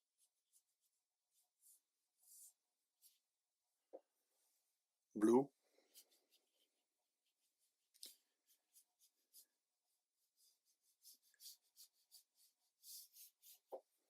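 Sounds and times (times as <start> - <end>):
faint scratchy brush strokes: 0.0 - 14.0.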